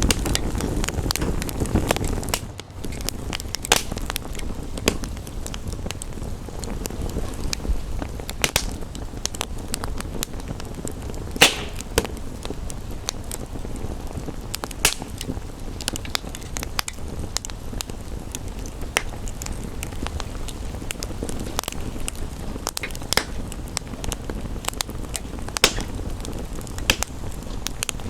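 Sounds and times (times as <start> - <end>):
fire snapping: 0.0 - 28.0
wood fire crackling: 0.0 - 28.0.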